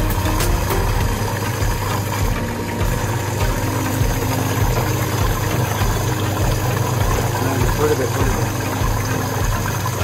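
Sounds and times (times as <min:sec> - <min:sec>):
electric mixer motor humming: 0:00.0 - 0:10.0.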